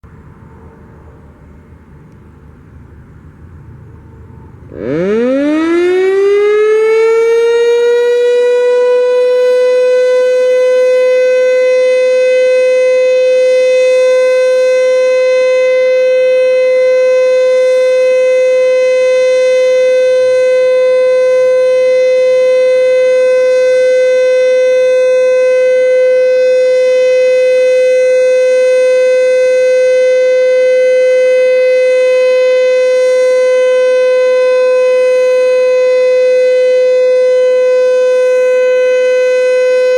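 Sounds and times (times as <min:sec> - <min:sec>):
warning siren steady tone: 0:04.3 - 0:39.9.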